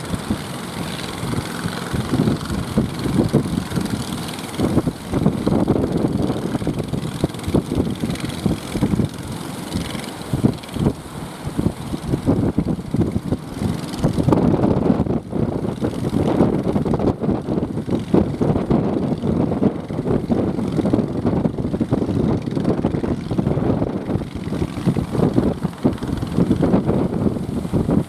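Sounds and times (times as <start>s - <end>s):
small boat engine running: 0.0s - 28.0s
wind buffeting microphone: 0.0s - 28.0s.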